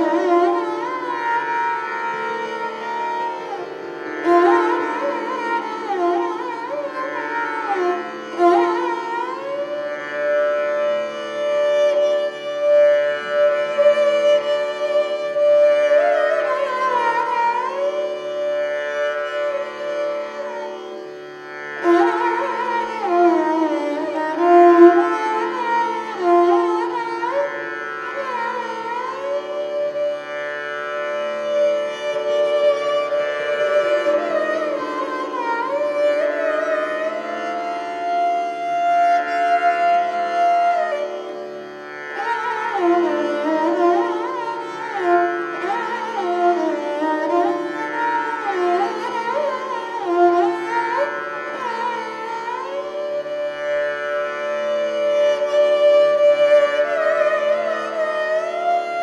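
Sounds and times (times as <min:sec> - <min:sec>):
bowed lute gliding notes: 0:00.0 - 0:18.5, 0:19.3 - 0:30.4, 0:31.4 - 0:53.1.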